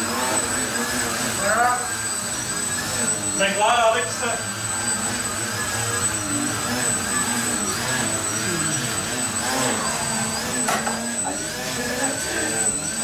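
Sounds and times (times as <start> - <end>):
rc plane motors whining: 0.0 - 13.0.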